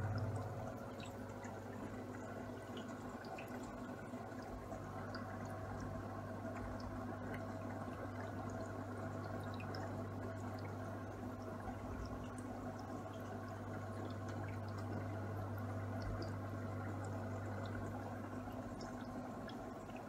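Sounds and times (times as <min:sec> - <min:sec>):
steady low hum: 0:00.0 - 0:20.0
water trickling and dripping: 0:00.0 - 0:20.0.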